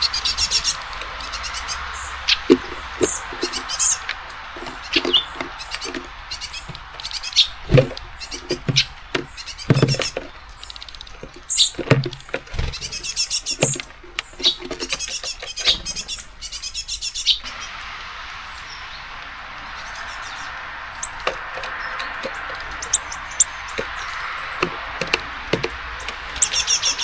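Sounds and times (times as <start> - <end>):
birds pecking at seeds: 0.0 - 27.0
high bird chirps: 0.0 - 27.0
rain hissing: 0.0 - 27.0.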